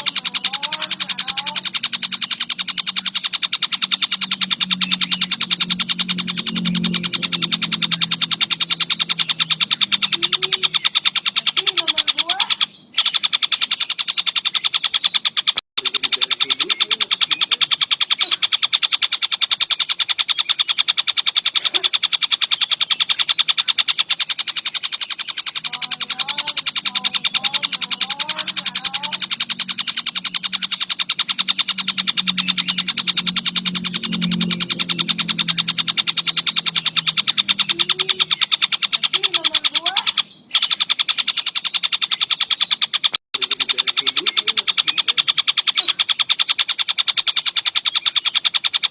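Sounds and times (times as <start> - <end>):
kingfisher chattering call: 0.0 - 48.9.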